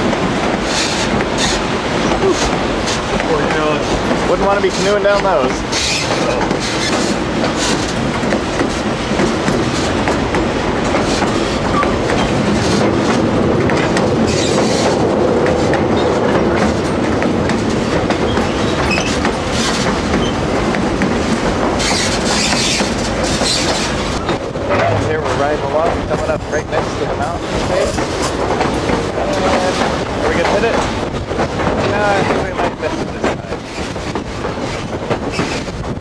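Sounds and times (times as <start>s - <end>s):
train wheels clickety-clack: 0.0s - 36.0s.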